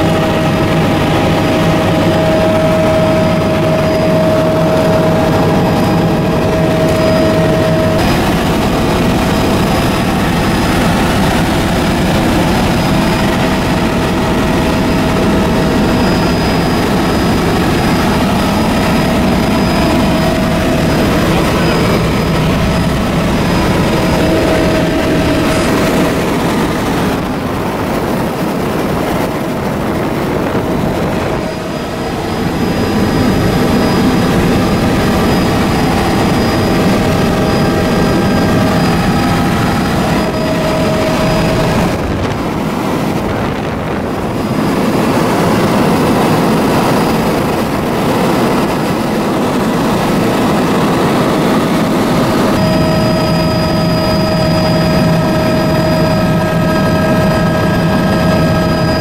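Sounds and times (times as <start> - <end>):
engine rumbling with high whine: 0.0 - 48.8.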